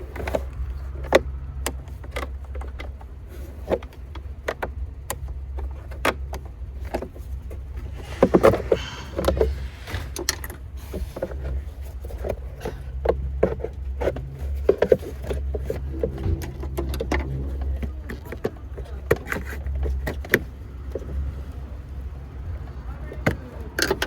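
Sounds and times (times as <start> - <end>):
car engine idling hum: 0.0 - 24.0.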